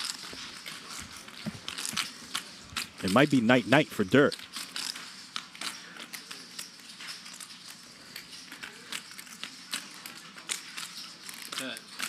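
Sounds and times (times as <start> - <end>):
poker chips clicking: 0.0 - 12.0.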